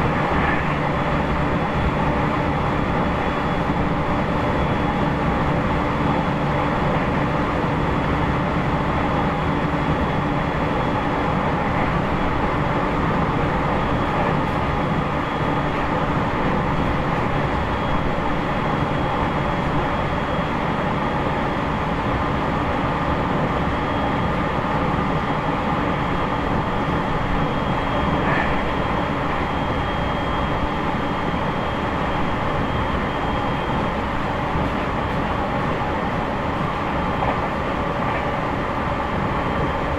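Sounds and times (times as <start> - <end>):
air-conditioning noise: 0.0 - 39.9
train wheels rumbling on rail: 0.0 - 39.9.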